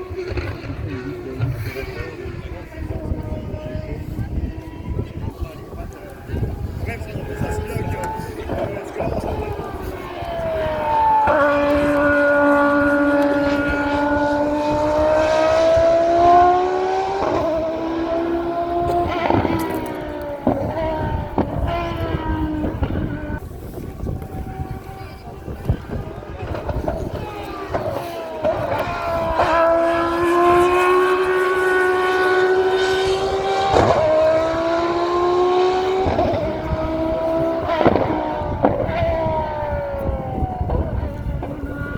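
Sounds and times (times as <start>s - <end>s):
race car engine at speed: 0.0s - 41.9s.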